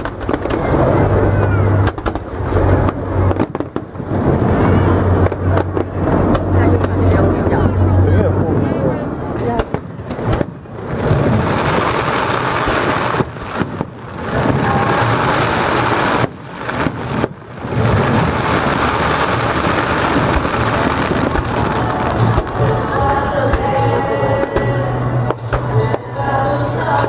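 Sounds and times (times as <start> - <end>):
fireworks bangs and crackle: 0.0 - 27.0.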